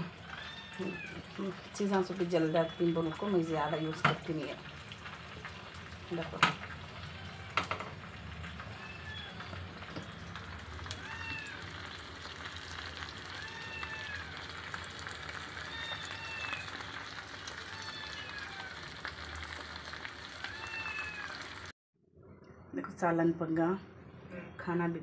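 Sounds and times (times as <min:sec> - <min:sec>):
fish sizzling in oil: 0:00.0 - 0:21.7.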